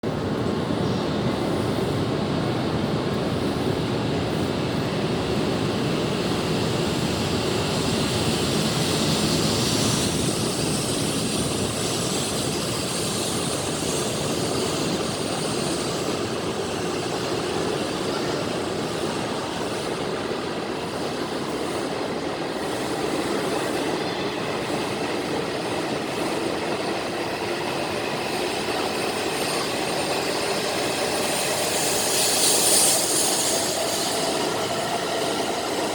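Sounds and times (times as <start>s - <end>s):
train pulling out: 0.0s - 35.9s.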